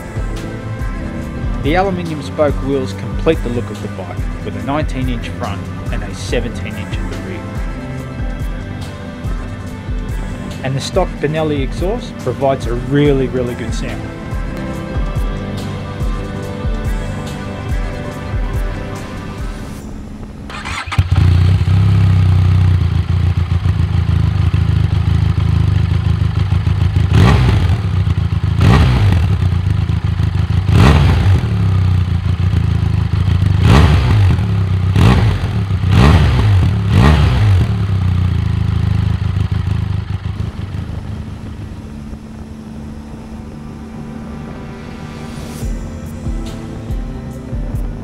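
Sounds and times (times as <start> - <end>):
motorcycle engine idling: 0.0 - 18.8, 19.8 - 44.2
motorcycle engine revving: 0.0 - 48.0.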